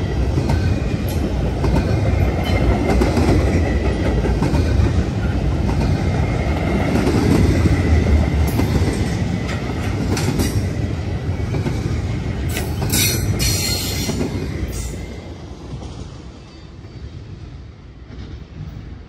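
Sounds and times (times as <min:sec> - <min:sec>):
train cars knocking and clacking: 0:00.0 - 0:19.0
train wheels rumbling on rail: 0:00.0 - 0:19.0.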